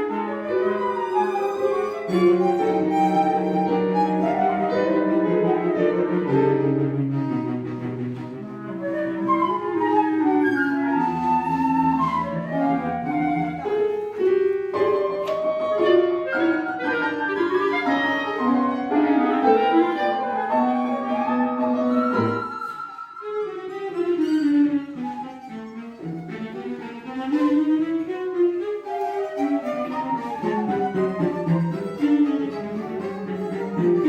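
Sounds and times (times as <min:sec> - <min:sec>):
chamber ensemble playing atonal music: 0:00.0 - 0:34.0.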